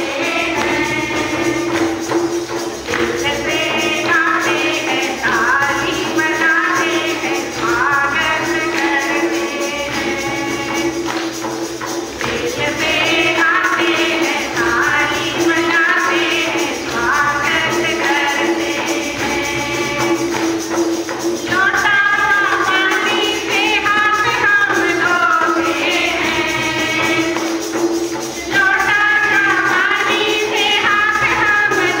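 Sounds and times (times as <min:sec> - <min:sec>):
women singing into microphone: 0:00.0 - 0:11.4, 0:12.2 - 0:20.6, 0:21.4 - 0:27.8, 0:28.4 - 0:32.0
rhythmic percussion: 0:00.0 - 0:32.0.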